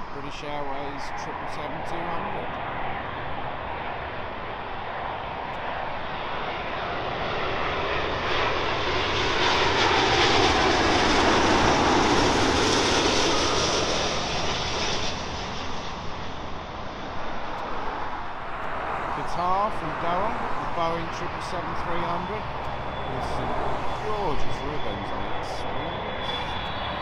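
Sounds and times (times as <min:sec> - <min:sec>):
jet engines passing overhead: 0:00.0 - 0:27.0.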